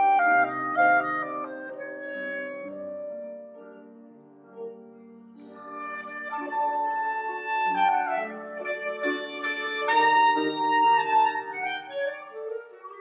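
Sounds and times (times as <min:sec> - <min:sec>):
clarinet: 0:00.0 - 0:04.2, 0:05.4 - 0:13.0
grand piano chords: 0:00.0 - 0:13.0.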